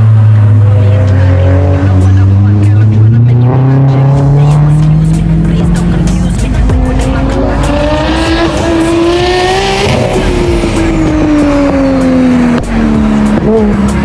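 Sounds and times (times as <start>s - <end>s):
car driven hard: 0.0s - 14.0s.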